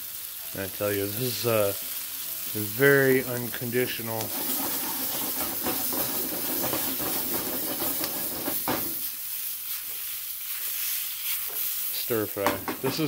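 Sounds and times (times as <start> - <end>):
vegetables sizzling in skillet: 0.0 - 13.0.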